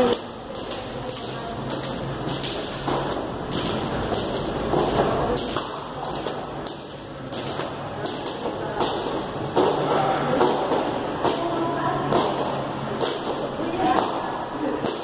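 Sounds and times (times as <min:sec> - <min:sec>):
battle ropes slapping tiled floor: 0:00.0 - 0:15.0.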